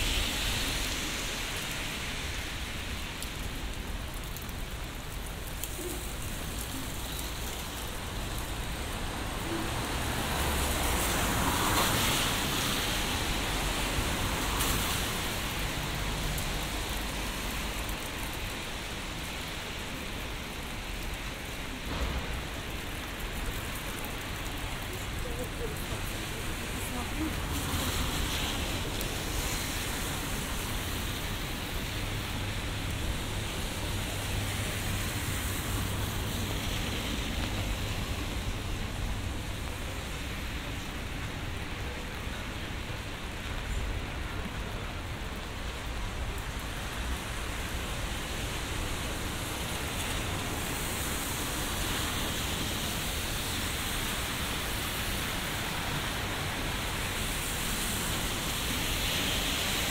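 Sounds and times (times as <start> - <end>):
faint city traffic: 0.0 - 59.9
rain on umbrella and pavement: 0.0 - 59.9.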